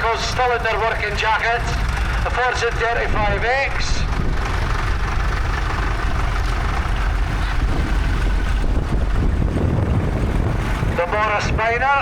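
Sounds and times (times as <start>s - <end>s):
tractor engine driving past: 0.0s - 12.0s.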